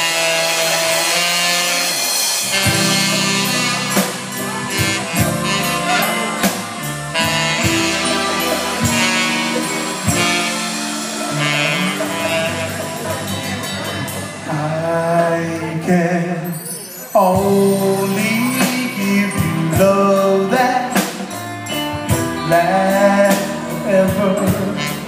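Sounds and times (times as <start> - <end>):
saxophones: 0.0 - 15.1, 16.4 - 25.0
bass guitar: 0.0 - 16.5, 17.2 - 25.0
drums: 0.0 - 25.0.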